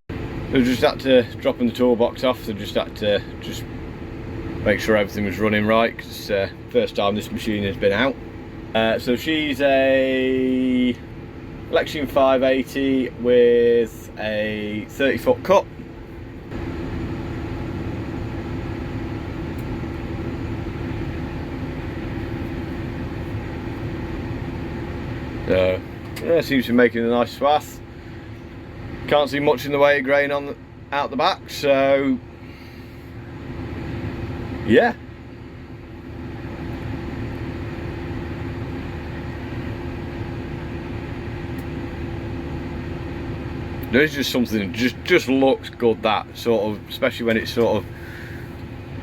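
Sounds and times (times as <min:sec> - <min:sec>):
harvest machinery engine droning: 0:00.1 - 0:49.0
steady hum: 0:00.1 - 0:49.0.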